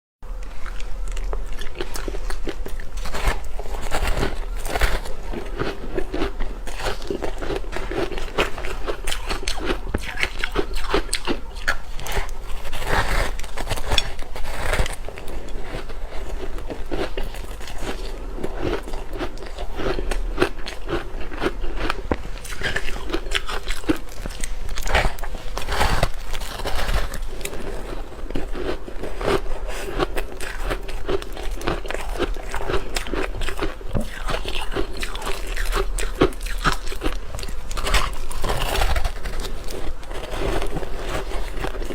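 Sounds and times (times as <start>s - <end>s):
ice being chewed: 0.3s - 41.9s.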